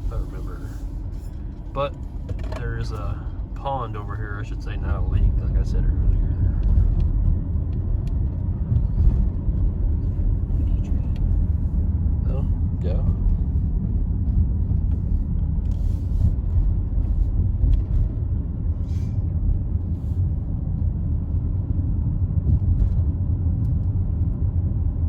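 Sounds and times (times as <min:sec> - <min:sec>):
car road rumble: 0:00.0 - 0:25.0.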